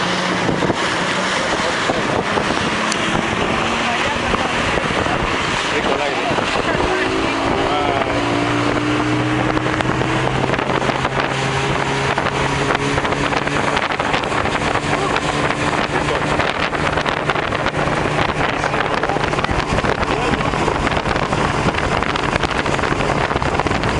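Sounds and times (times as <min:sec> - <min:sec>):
car engine humming: 0:00.0 - 0:23.9
wind and road noise: 0:00.0 - 0:23.9.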